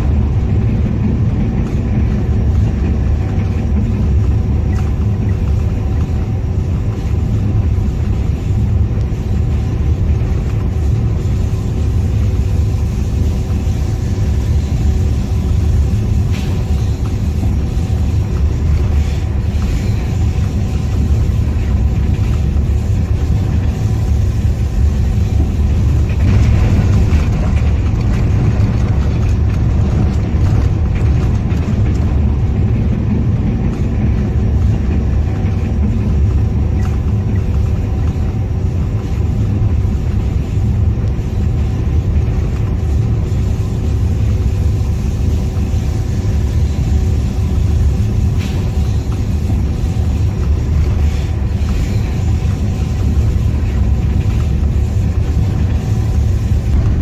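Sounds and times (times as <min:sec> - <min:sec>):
locomotive engine rumbling: 0:00.0 - 0:57.0.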